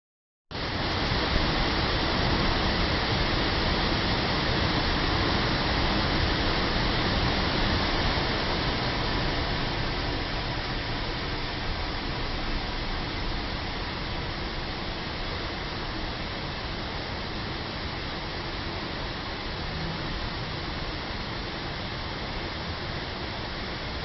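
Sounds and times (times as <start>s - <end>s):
waterfall rushing water: 0.6s - 24.0s.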